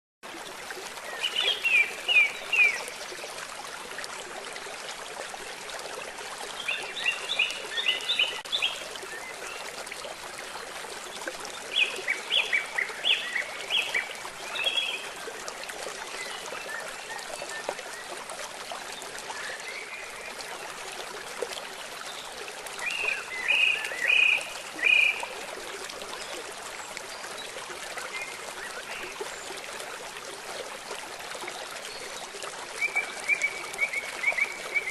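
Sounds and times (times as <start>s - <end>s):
river water flowing: 0.2s - 34.9s.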